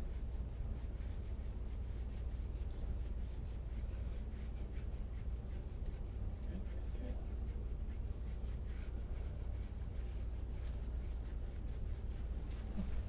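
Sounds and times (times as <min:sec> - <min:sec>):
steady low hum: 0:00.0 - 0:13.0
hands rubbing skin: 0:00.2 - 0:13.0.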